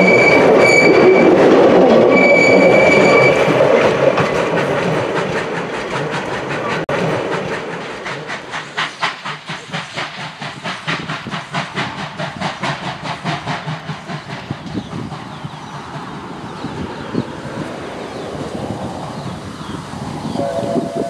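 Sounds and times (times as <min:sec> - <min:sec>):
coaches rumbling on rails: 0:00.0 - 0:21.0
steam hissing: 0:00.0 - 0:21.0
steam locomotive chuffing: 0:00.0 - 0:21.0.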